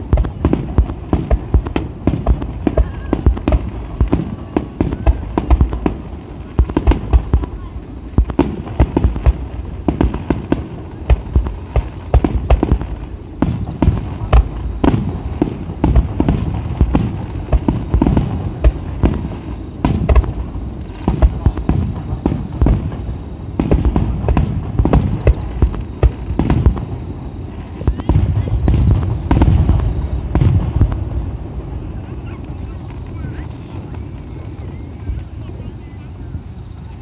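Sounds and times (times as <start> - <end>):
fireworks booming and banging: 0.0 - 37.0.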